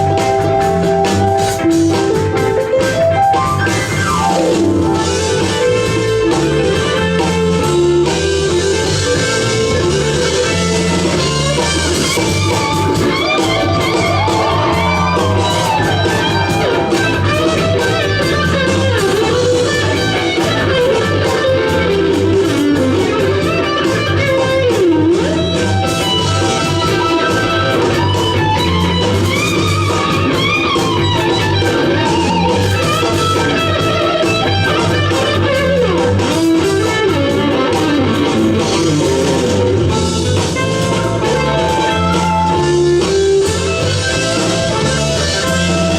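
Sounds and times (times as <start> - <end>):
jazz fusion band playing: 0.0 - 45.9
lead electric guitar bending notes: 0.0 - 45.9.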